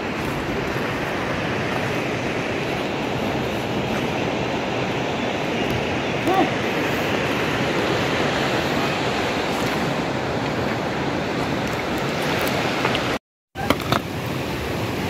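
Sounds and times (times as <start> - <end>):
steady rushing noise: 0.0 - 13.2.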